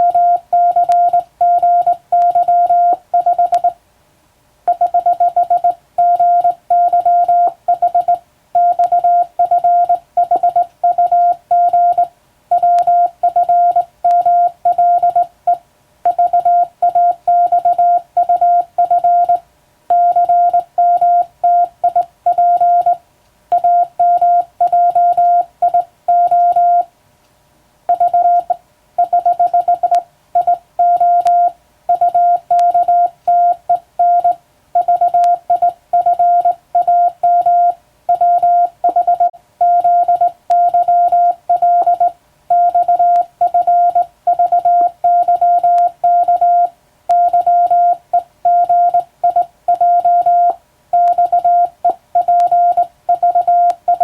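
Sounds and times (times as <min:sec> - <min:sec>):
morse code beeps: 0:00.0 - 0:03.8, 0:04.7 - 0:26.9, 0:27.9 - 0:54.0.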